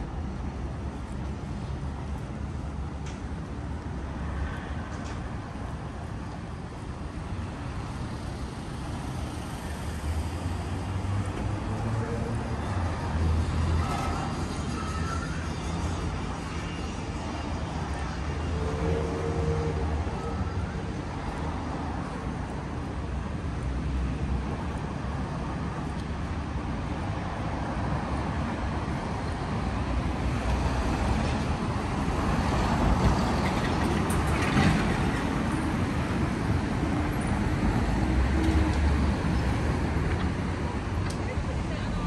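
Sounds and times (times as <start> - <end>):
rumble of passing vehicles: 0.0 - 42.0.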